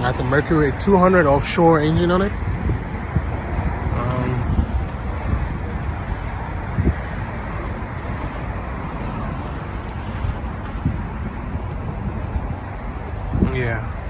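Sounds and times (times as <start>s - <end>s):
highway traffic: 0.0s - 14.0s.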